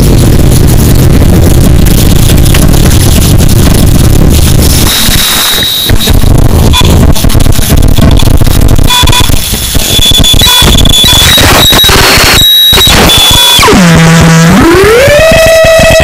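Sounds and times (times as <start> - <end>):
buzzing pitched tone: 0.0 - 16.0
harsh noise music: 0.0 - 16.0.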